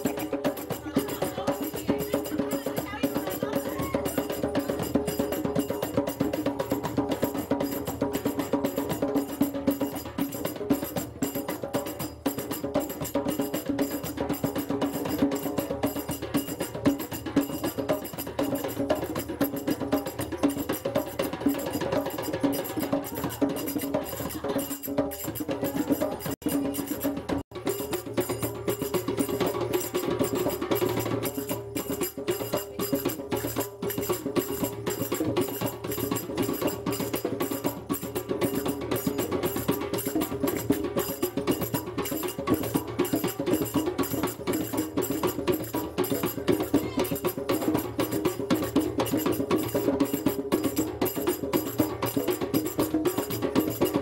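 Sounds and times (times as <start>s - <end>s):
hand drums playing fast rhythm: 0.0s - 54.0s.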